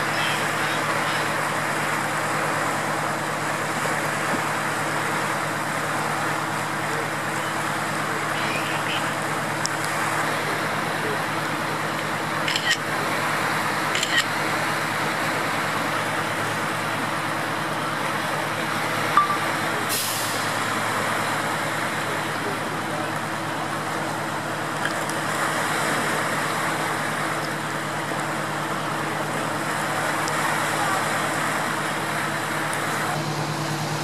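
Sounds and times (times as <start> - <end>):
floodwater rushing: 0.0 - 34.0
low engine hum: 0.0 - 34.0.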